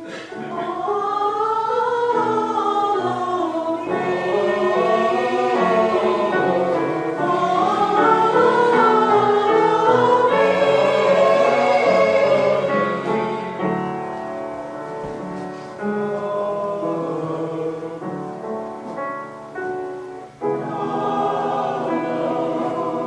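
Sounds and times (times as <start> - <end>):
choir singing a hymn: 0.0 - 23.0
piano accompaniment: 0.0 - 23.0.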